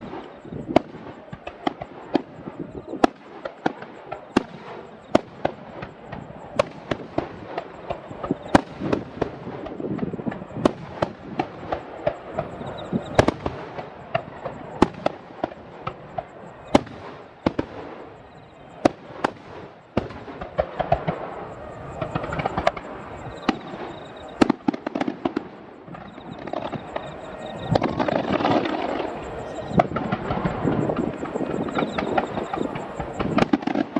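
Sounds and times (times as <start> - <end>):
fireworks bangs: 0.0 - 33.9
fireworks crackling: 0.0 - 33.9.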